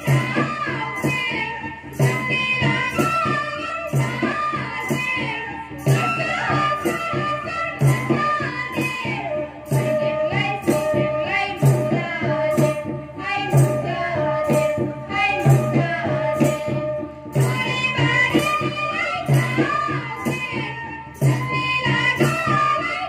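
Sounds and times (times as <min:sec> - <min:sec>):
folk dance percussion beat: 0:00.0 - 0:23.0
heavy drum strokes: 0:00.0 - 0:23.0.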